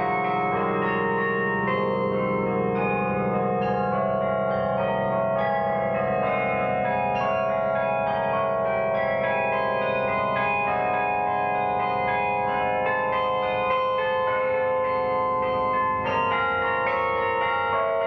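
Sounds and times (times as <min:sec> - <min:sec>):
carillon bell melody: 0:00.0 - 0:18.0
low bass bells: 0:00.0 - 0:18.0.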